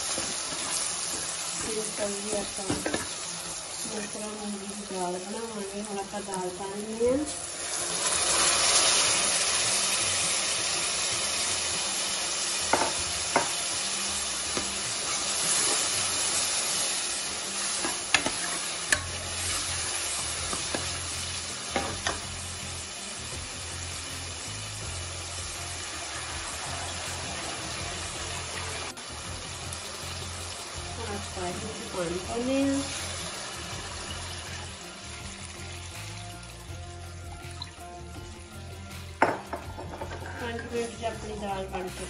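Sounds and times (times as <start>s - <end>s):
lentils sizzling in hot oil: 0.0s - 42.0s.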